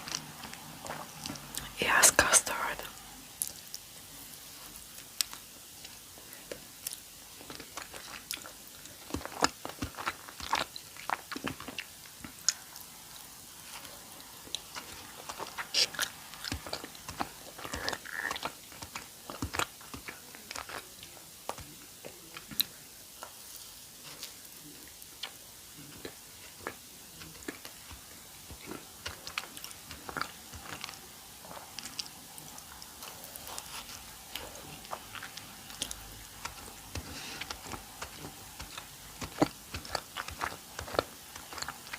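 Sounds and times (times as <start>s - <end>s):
mouth chewing and smacking: 0.0s - 41.9s.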